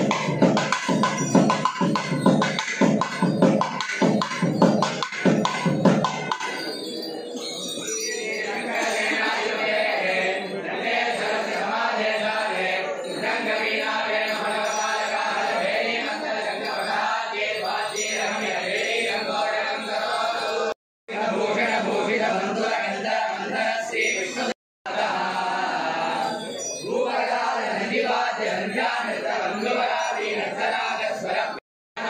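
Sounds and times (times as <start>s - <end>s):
group chanting devotional song: 0.0s - 6.7s, 8.2s - 31.6s.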